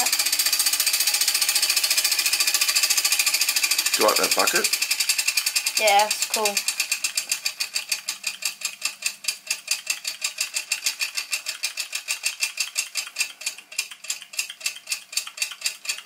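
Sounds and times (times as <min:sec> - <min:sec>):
model steam engine chuffing: 0:00.0 - 0:16.0.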